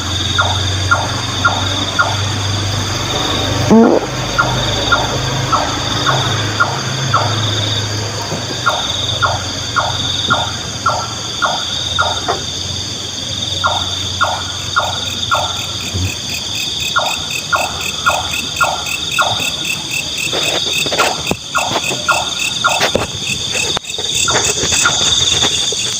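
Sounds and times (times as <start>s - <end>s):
nightjar calling: 0.0s - 12.7s, 13.3s - 25.9s
crickets trilling: 0.0s - 25.9s.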